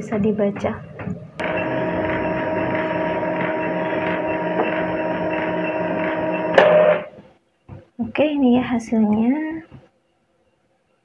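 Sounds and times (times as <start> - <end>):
mechanical hum with steady tones: 0.0 - 9.8.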